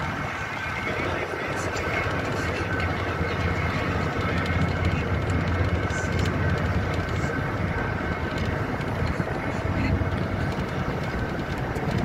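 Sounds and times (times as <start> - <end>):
bus engine drone: 0.0 - 12.0
light rattling clicks: 1.5 - 12.0.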